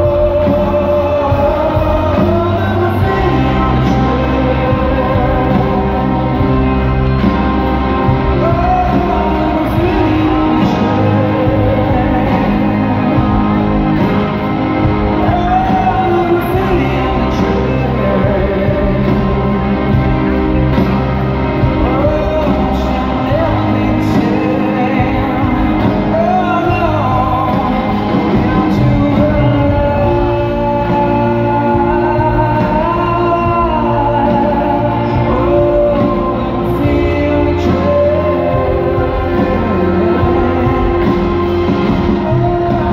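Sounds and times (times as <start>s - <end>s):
lead singer: 0.0s - 42.9s
live rock band playing: 0.0s - 42.9s.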